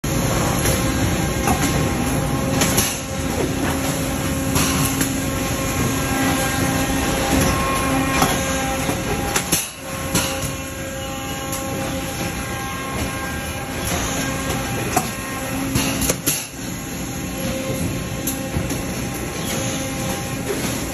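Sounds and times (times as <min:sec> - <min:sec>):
industrial machine hum and clatter: 0:00.0 - 0:20.9.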